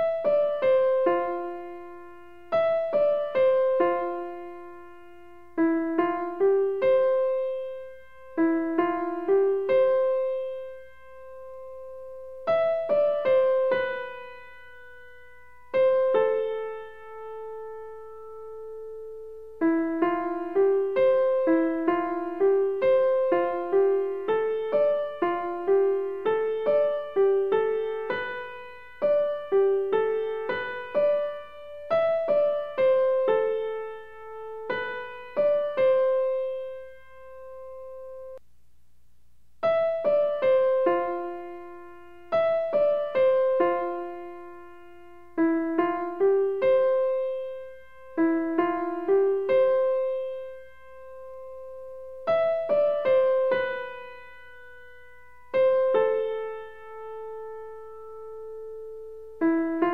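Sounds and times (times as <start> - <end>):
slow piano melody: 0.0 - 38.4, 39.6 - 59.9.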